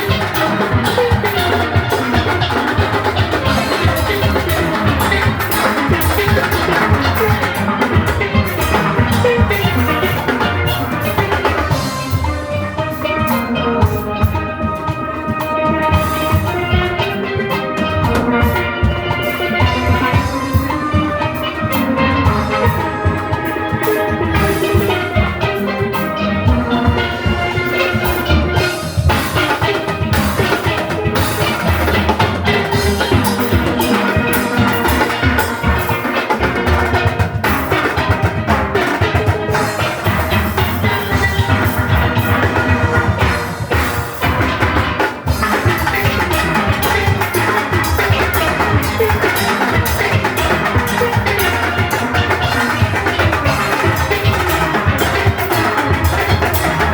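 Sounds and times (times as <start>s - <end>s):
drum kit: 0.0s - 56.9s
steelpans playing a fast tune: 0.0s - 56.9s.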